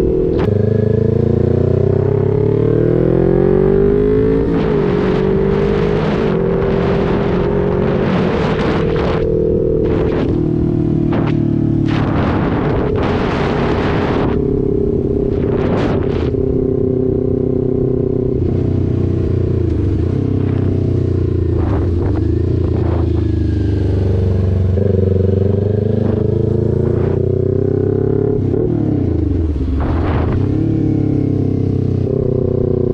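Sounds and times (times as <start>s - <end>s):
motorcycle engine revving: 0.0s - 32.9s
rushing wind noise: 0.0s - 32.9s.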